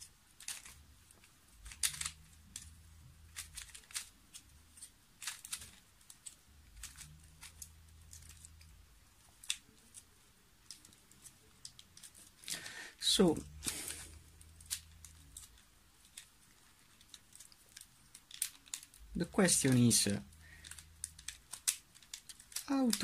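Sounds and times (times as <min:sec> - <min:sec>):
puzzle cube clicking and rattling: 0:00.0 - 0:23.0.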